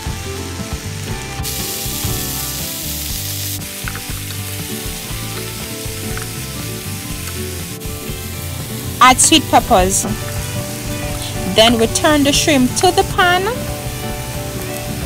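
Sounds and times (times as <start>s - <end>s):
background music: 0.0s - 15.0s
vegetables sizzling in hot oil: 0.0s - 15.0s.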